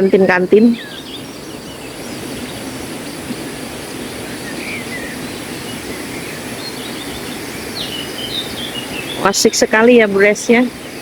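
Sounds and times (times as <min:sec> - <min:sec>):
faint bird chirps: 0:00.0 - 0:11.0
river rushing: 0:00.0 - 0:11.0.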